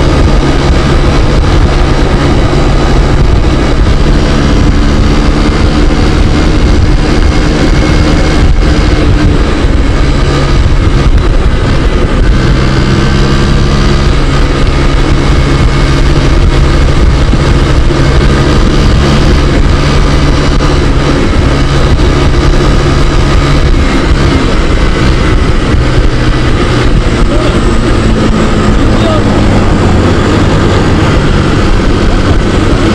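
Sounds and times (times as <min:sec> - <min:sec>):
scooter engine running: 0:00.0 - 0:32.9
wind noise on microphone: 0:00.0 - 0:32.9.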